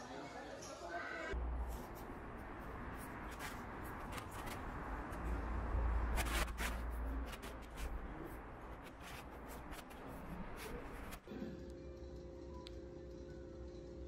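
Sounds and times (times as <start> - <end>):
low street rumble: 1.3 - 14.0.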